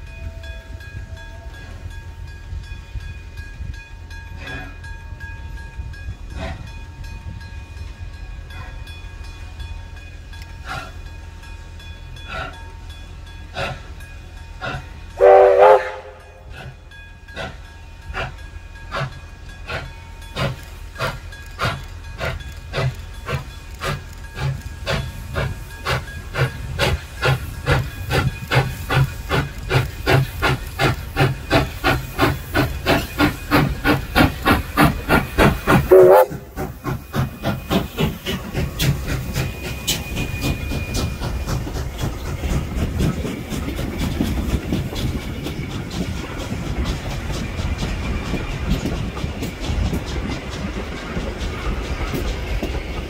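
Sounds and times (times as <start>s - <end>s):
steam locomotive exhaust beats: 0.0s - 53.0s.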